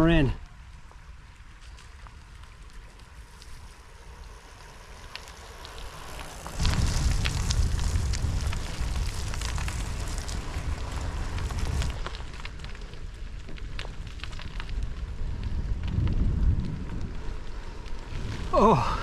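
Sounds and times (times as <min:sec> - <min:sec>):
rain crackling on microphone: 0:00.0 - 0:19.0
wind buffeting rumble: 0:00.0 - 0:19.0.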